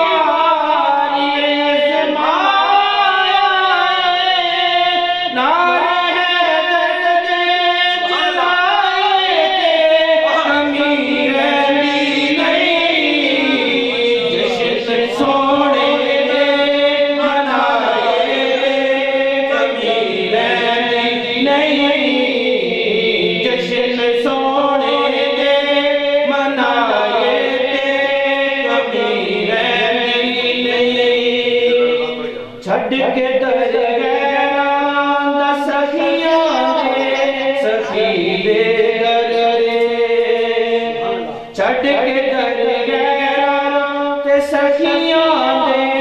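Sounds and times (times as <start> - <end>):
man singing into a microphone: 0.0 - 46.0.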